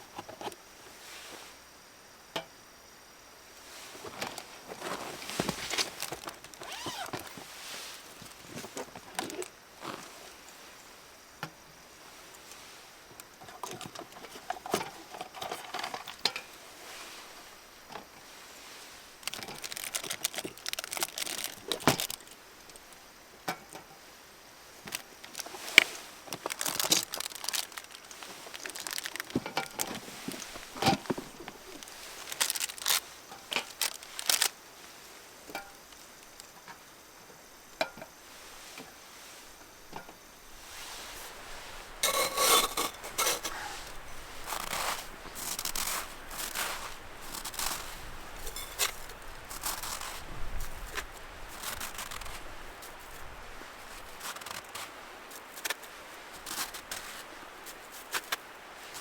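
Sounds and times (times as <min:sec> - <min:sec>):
crinkling and rustling: 0:00.0 - 0:01.5, 0:03.6 - 0:10.6, 0:12.4 - 0:23.0, 0:24.8 - 0:36.8, 0:38.0 - 0:59.0.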